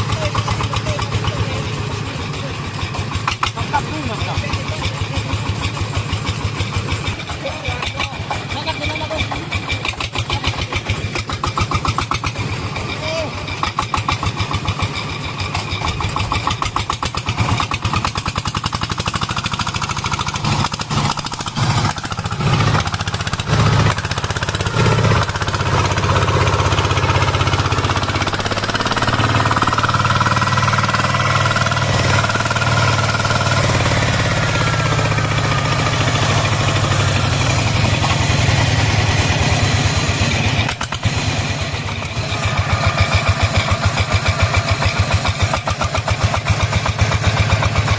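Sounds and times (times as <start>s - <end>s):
diesel engine chugging: 0.0s - 47.9s.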